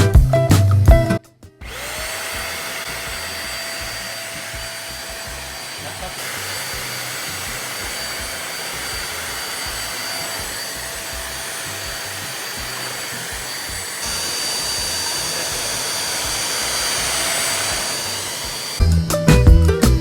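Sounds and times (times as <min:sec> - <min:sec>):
stick vacuum cleaner running: 0:01.6 - 0:18.9.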